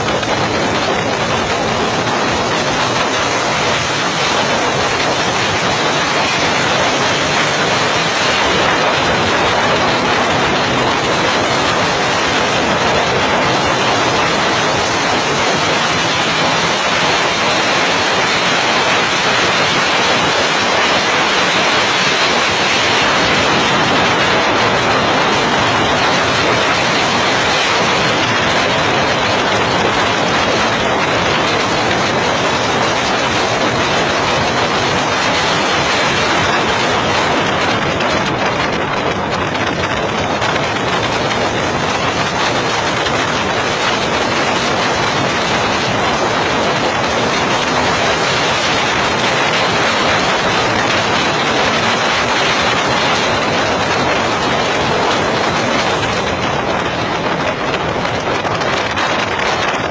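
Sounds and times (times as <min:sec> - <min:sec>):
boat engine running at speed: 0:00.0 - 0:59.9
wind rushing: 0:00.0 - 0:59.9.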